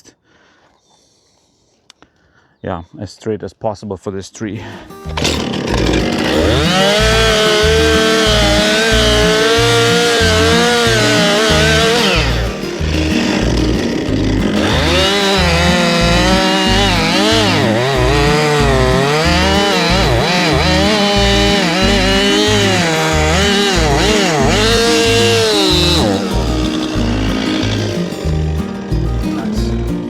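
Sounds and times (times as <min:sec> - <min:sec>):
chainsaw cutting wood: 0:04.9 - 0:29.5.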